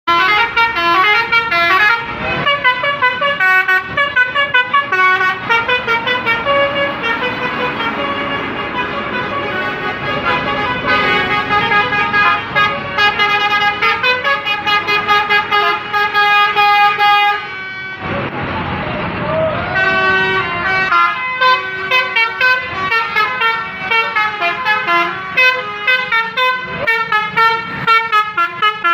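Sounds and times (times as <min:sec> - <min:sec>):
musical air horn playing tune: 0:00.1 - 0:18.1, 0:19.7 - 0:28.9.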